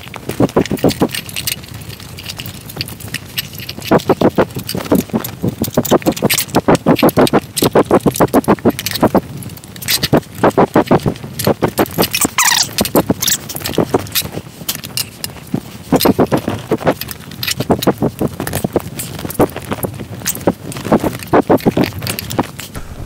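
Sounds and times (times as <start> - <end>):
tyre clicking and creaking on rim: 0.0 - 23.0.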